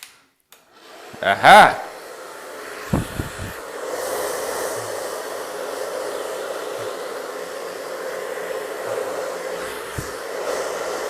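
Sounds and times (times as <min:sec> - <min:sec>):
hair dryer running: 0:00.6 - 0:11.0.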